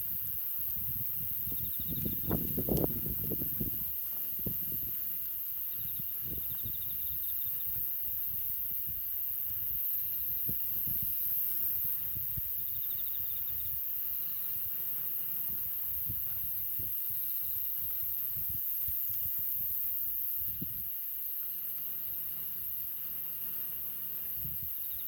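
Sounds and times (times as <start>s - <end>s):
insects trilling: 0.0s - 25.0s
steady high hiss: 0.0s - 25.0s.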